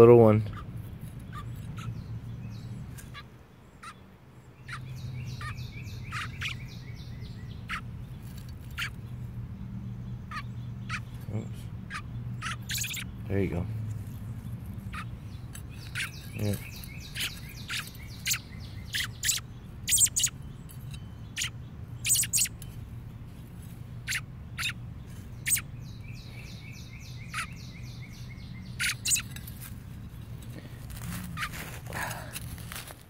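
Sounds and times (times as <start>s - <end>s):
birds chirping: 0.0s - 33.0s
bird trilling: 0.4s - 9.2s, 10.0s - 13.4s, 14.1s - 22.8s, 24.0s - 30.2s, 31.0s - 32.4s.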